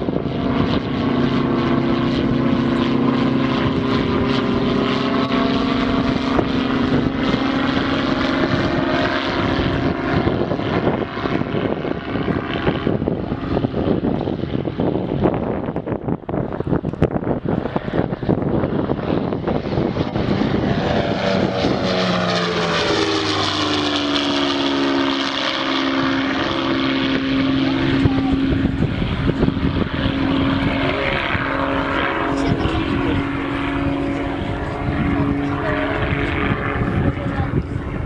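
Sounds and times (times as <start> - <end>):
propeller plane flying past: 0.0 - 38.0.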